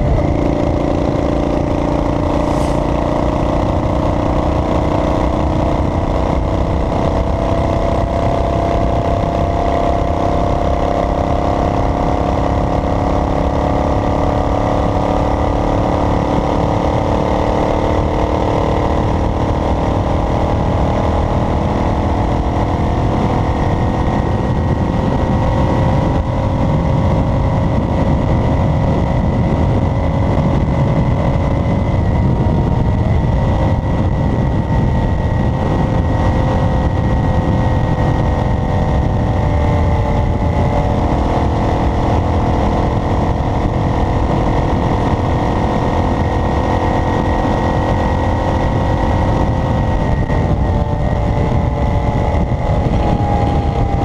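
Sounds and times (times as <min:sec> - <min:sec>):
road rumble: 0:00.0 - 0:54.0
vehicle engine while driving: 0:00.0 - 0:54.0.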